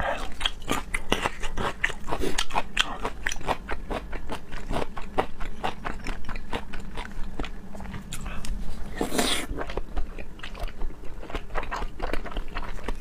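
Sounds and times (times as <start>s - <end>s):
chewing and biting seafood: 0.0s - 13.0s.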